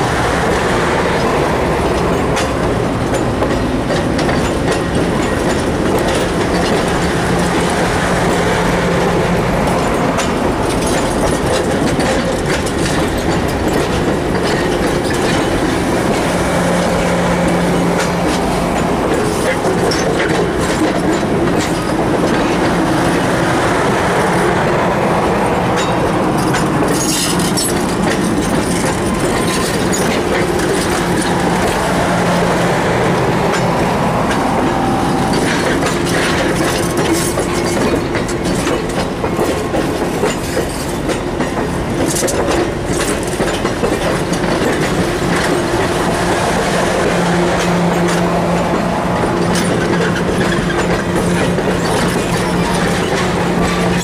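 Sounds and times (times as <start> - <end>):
train wheels rumbling on rails: 0.0 - 54.0
wheels clicking over rail joints: 0.0 - 54.0.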